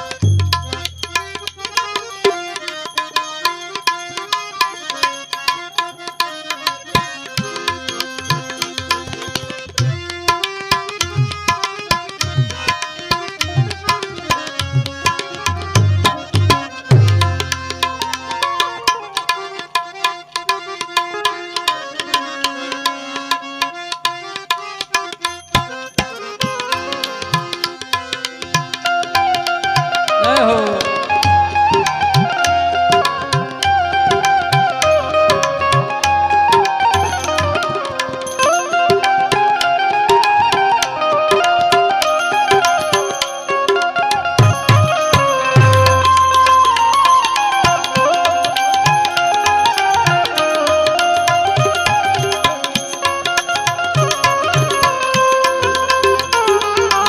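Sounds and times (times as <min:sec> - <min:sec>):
fast tabla strokes: 0:00.0 - 0:57.0
harmonium melody: 0:00.0 - 0:57.0.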